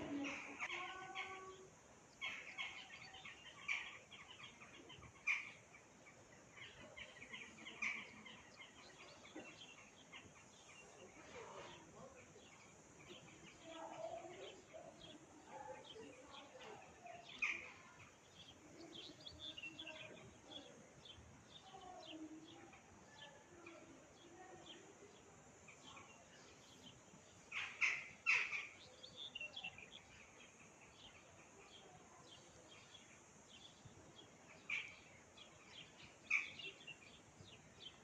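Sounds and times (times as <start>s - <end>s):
faint outdoor background noise: 0.0s - 38.0s
small birds chirping: 0.0s - 38.0s.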